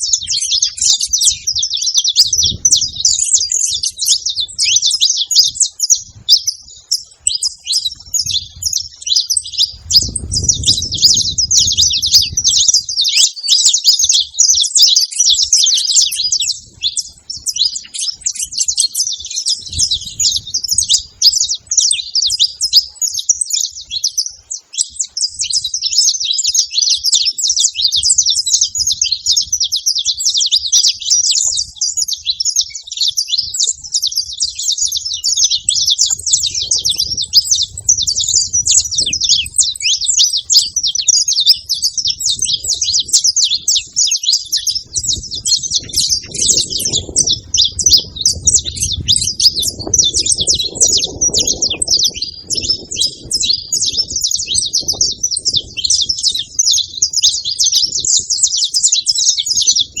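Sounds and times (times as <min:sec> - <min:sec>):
finches chirping: 0:00.0 - 1:00.0.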